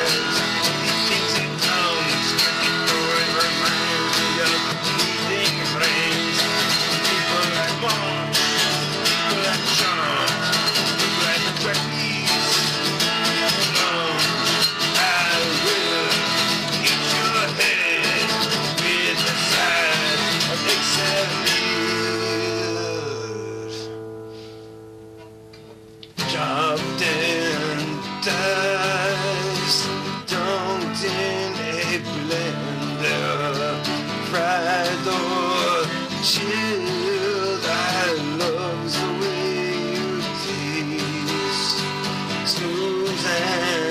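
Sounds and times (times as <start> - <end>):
man singing: 0.0 - 24.1, 26.2 - 43.9
acoustic guitar strumming: 0.0 - 43.9.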